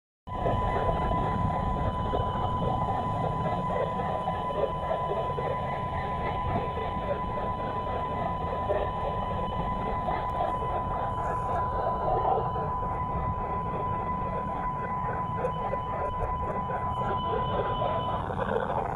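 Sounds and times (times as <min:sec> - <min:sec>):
rough buzzing radio noise: 0:00.3 - 0:18.9
steady high radio tone: 0:00.3 - 0:18.9.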